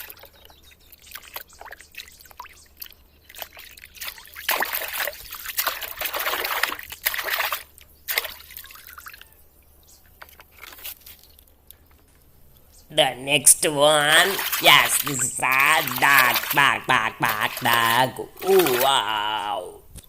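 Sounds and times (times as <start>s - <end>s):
water drips and splashes: 0.0s - 11.8s, 13.4s - 19.7s.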